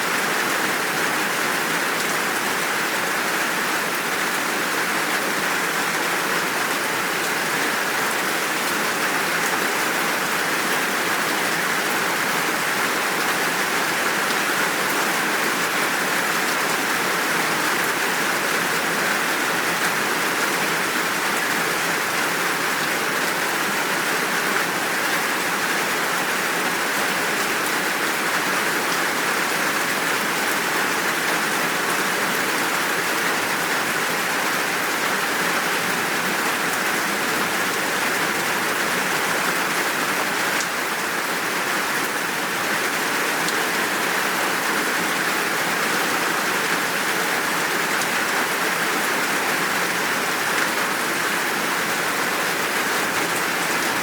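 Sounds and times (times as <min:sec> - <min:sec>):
heavy rain downpour: 0:00.0 - 0:54.0.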